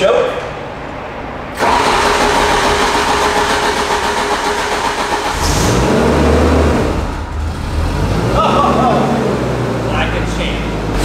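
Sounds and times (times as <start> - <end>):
gasoline engine running: 1.6 - 11.0.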